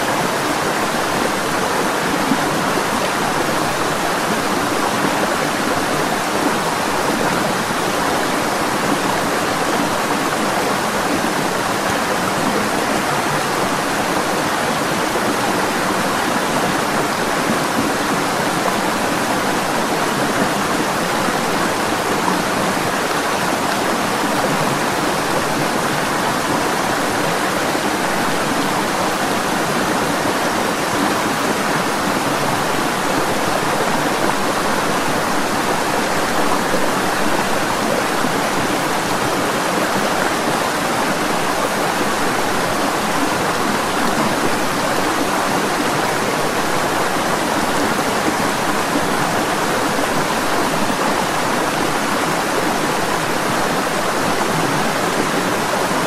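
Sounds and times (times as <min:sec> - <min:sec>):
water flowing over rocks: 0:00.0 - 0:56.0.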